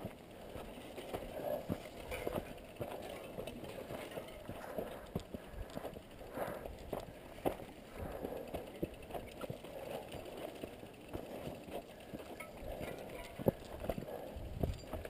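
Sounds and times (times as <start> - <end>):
footsteps on dirt trail: 0.0 - 15.0
mountain bikes rattling: 0.0 - 15.0.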